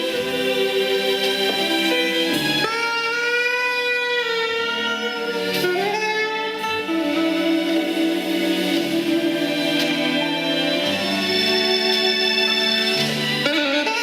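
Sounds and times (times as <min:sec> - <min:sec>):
jazz saxophone long notes: 0:00.0 - 0:14.0.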